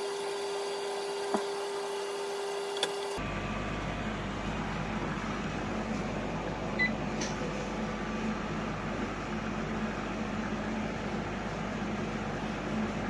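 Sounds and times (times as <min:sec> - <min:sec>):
vacuum pumps humming: 0:00.0 - 0:13.0.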